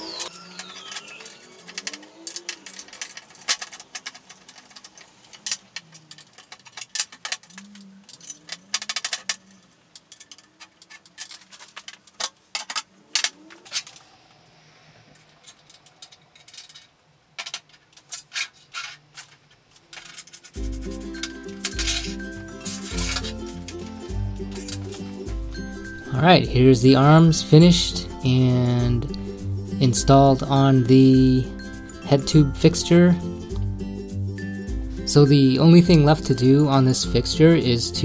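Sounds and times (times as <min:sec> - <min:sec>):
metal parts clinking: 0:00.0 - 0:14.2, 0:15.1 - 0:38.0.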